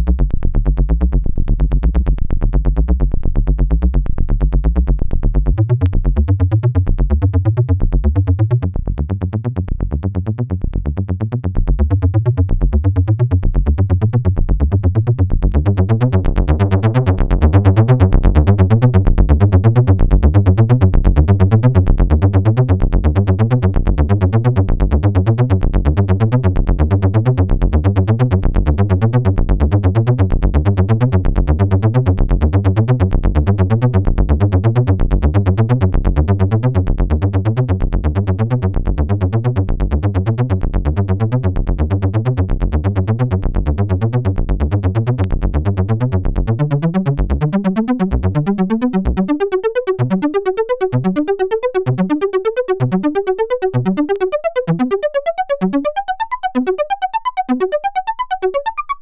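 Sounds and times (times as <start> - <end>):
synthesizer bass line: 0.0 - 59.0.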